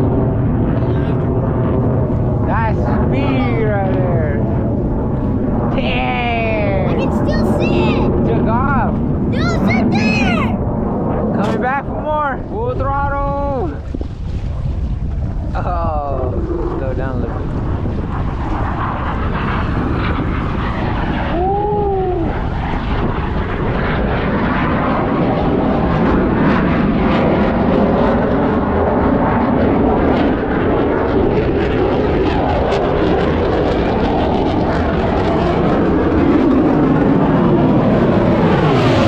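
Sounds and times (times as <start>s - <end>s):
airplane engine flying past: 0.0s - 39.0s.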